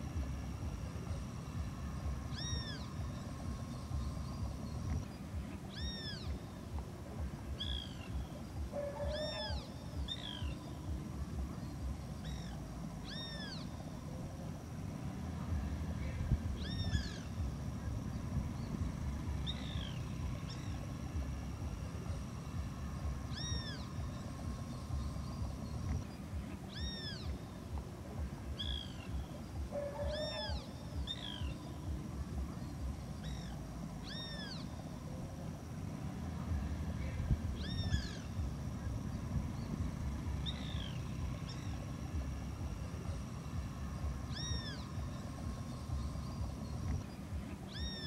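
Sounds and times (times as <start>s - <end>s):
low rumble: 0.0s - 48.0s.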